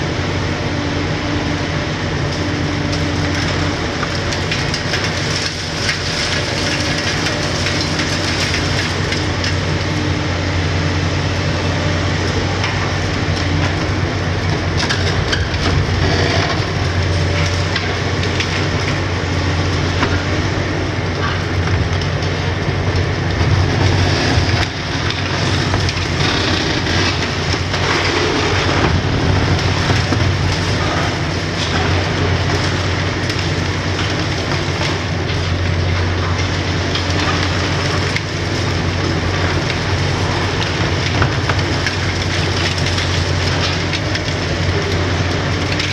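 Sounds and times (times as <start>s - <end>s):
diesel engine under load: 0.0s - 45.9s
concrete crunching and cracking: 2.2s - 10.6s, 11.5s - 45.9s.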